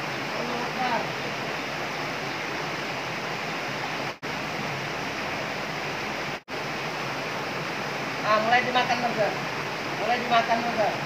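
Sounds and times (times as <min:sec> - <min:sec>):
water rushing through channel: 0:00.0 - 0:11.0.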